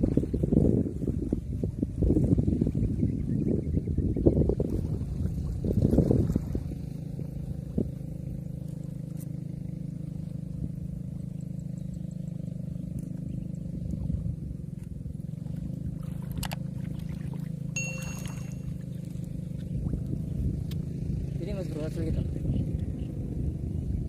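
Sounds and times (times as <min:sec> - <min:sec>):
small engine running: 0:04.6 - 0:24.0.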